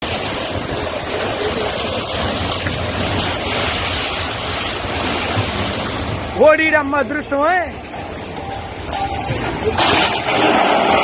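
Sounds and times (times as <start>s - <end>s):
floodwater rushing: 0.0s - 11.0s
wind buffeting microphone: 0.0s - 11.0s.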